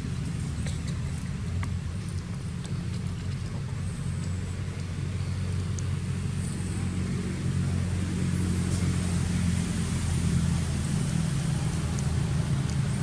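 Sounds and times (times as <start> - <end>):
motorbike engine rumbling: 0.0 - 13.0.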